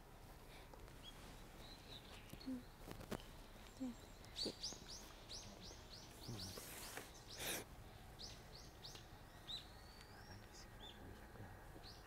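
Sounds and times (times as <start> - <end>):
bird chirping: 1.0 - 12.0.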